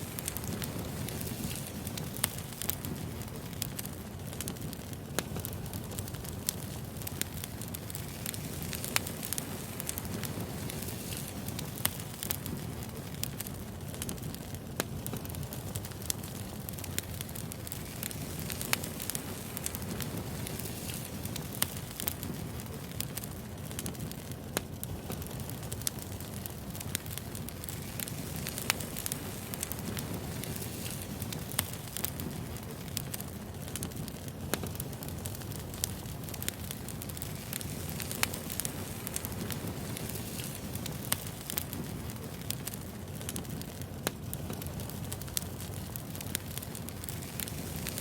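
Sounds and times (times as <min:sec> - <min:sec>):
firewood popping: 0:00.0 - 0:48.0
wood fire crackling: 0:00.0 - 0:48.0.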